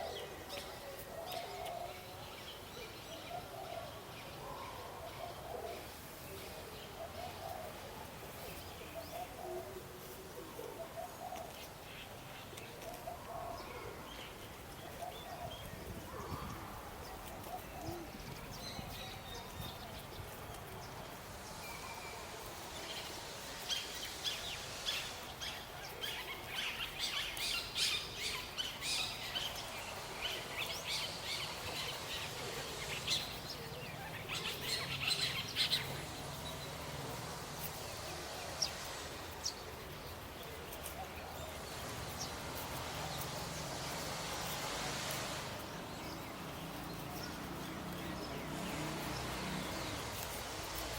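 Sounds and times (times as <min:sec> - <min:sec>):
low outdoor background: 0:00.0 - 0:50.9
small birds chirping: 0:00.0 - 0:50.9.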